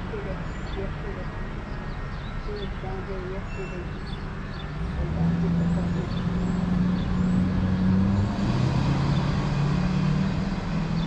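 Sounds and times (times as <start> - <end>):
road traffic noise: 0.0 - 11.0
vehicle engine humming: 0.0 - 11.0.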